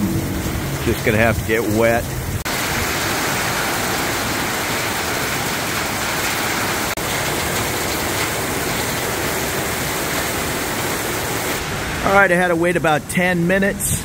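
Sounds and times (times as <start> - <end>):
heavy rain on street and awnings: 0.0 - 14.0.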